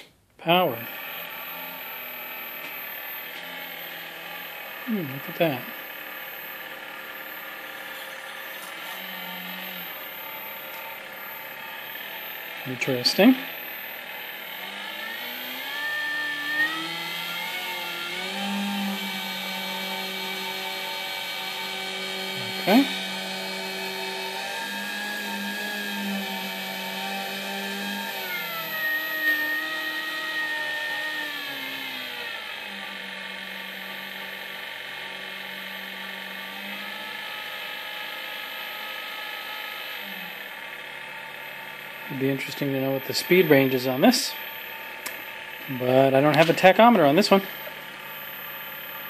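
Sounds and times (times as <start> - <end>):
lathe motor whine: 0.0 - 49.0.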